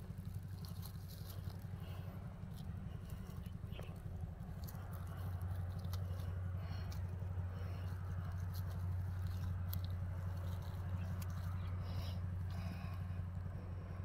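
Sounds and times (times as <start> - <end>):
dry straw rustling: 0.0 - 14.0
steady low rumble: 0.0 - 14.0.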